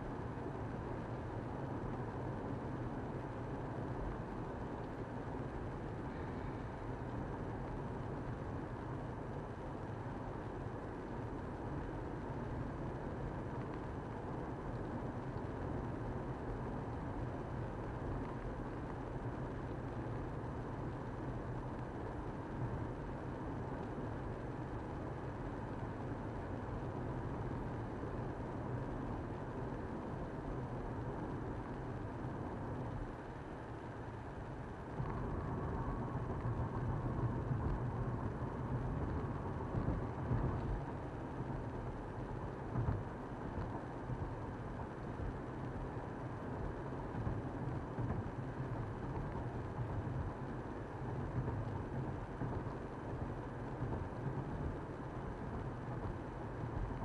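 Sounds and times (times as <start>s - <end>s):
faint whine: 0.0s - 57.0s.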